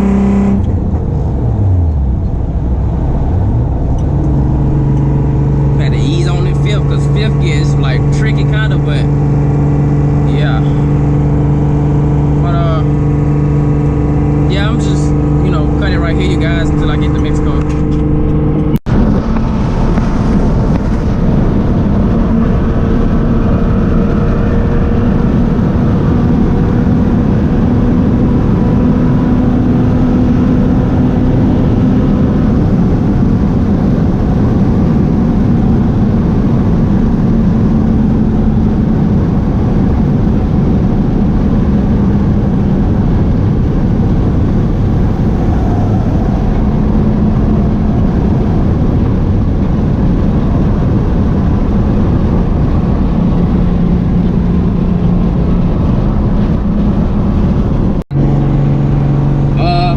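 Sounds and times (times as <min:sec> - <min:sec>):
car engine drone: 0:00.0 - 0:59.9
road and wind noise: 0:00.0 - 0:59.9.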